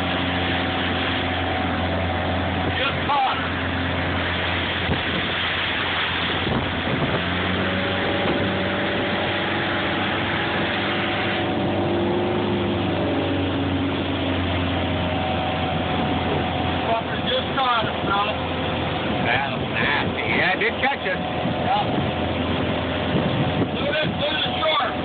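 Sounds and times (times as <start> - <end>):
motorboat engine running: 0.0 - 25.0
rush of wind and water: 0.0 - 25.0.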